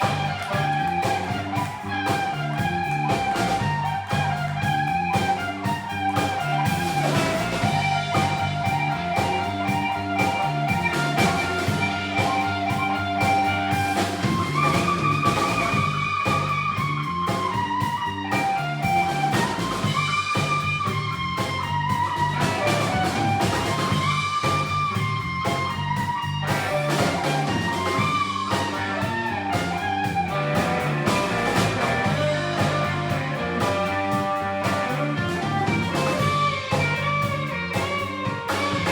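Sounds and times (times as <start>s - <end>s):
band backing: 0.0s - 38.9s
blues electric guitar solo: 0.0s - 38.9s.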